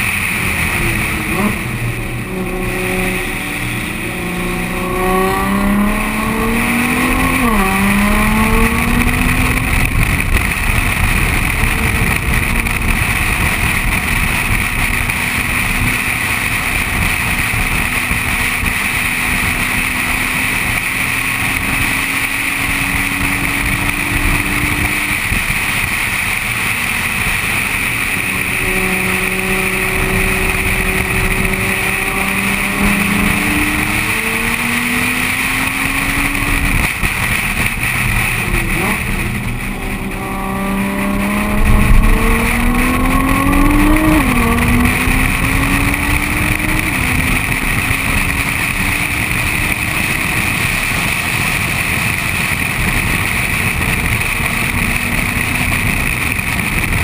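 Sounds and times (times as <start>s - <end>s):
car engine revving: 0.0s - 57.0s
road noise: 0.0s - 57.0s
wind rush: 0.0s - 57.0s.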